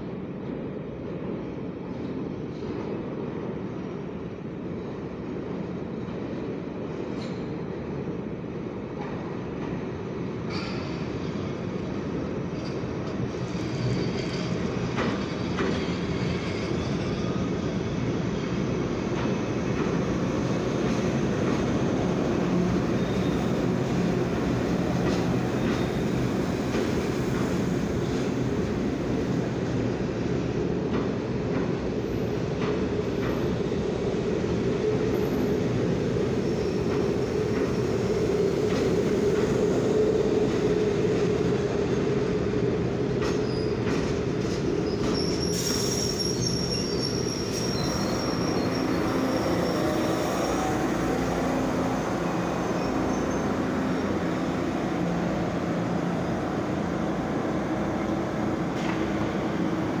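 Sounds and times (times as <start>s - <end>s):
train wheels rumbling on rail: 0.0s - 60.0s.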